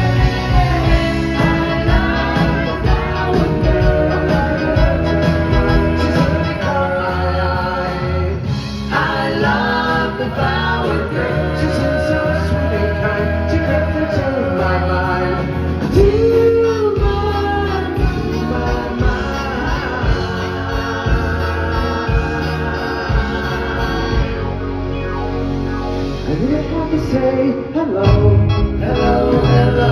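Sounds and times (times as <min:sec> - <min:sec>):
voices singing in harmony: 0:00.0 - 0:25.3, 0:26.0 - 0:29.9
live pop band playing: 0:00.0 - 0:29.9
steady bass line: 0:00.0 - 0:29.9.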